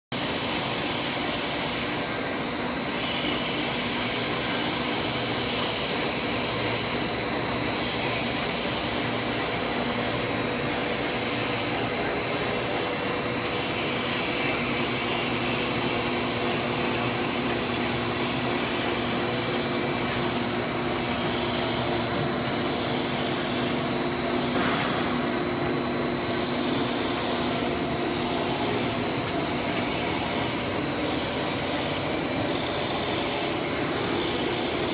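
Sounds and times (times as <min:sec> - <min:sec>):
industrial drone of motors: 0:00.2 - 0:34.9
steady high whine: 0:00.2 - 0:34.9.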